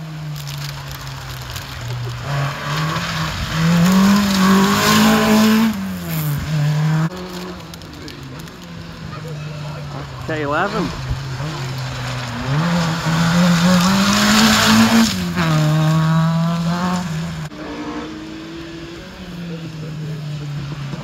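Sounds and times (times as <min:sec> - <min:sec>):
gravel and tyre noise: 0:00.0 - 0:21.0
rally car engine at full throttle: 0:00.0 - 0:21.0.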